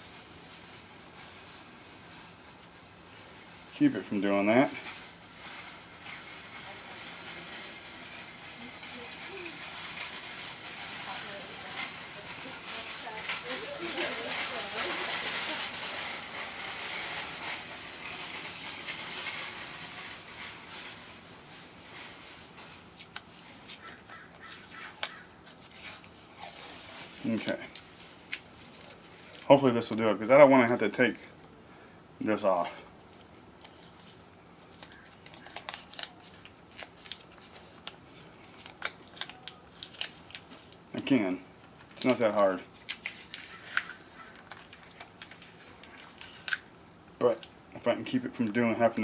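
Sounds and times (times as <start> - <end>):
tape peeling off a roll: 0.0 - 30.0, 33.0 - 40.9, 41.6 - 47.6.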